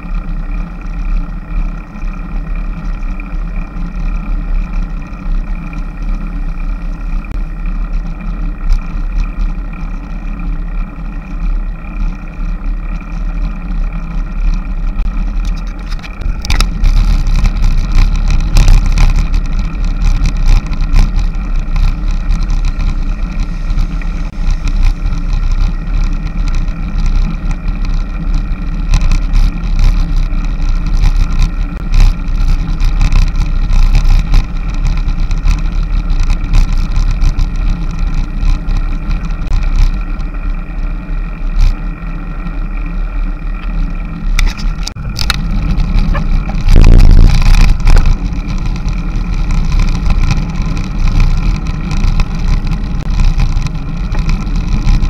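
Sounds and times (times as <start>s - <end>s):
road rumble: 0.0s - 55.0s
wind buffeting: 0.2s - 55.0s.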